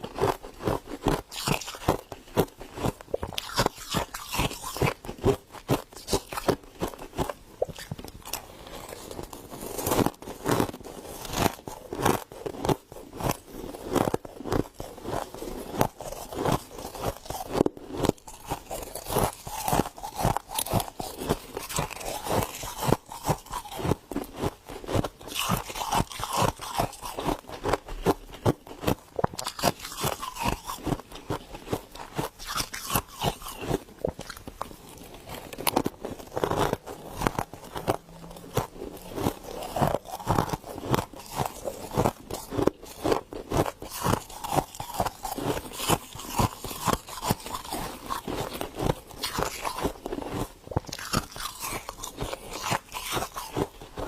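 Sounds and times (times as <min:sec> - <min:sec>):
frost being chewed crunching: 0:00.0 - 0:54.0.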